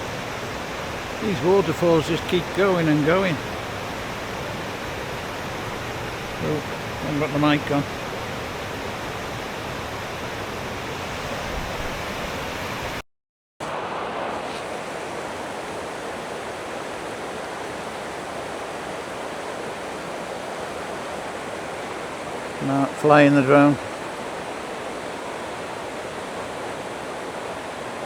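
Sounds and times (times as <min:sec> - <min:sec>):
waterfall rushing: 0:00.0 - 0:13.0, 0:13.6 - 0:28.0.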